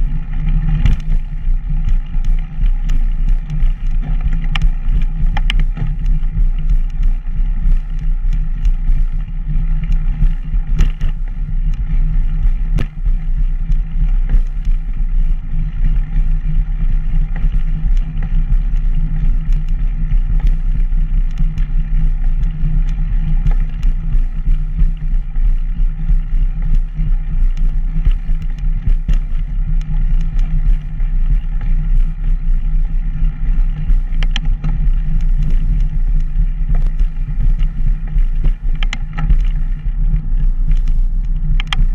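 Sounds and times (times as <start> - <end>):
drone and rattle of rolling ride: 0.0 - 41.9.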